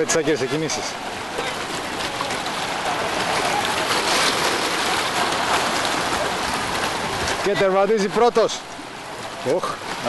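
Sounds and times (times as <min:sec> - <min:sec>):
swimmers splashing water: 0:00.0 - 0:10.0.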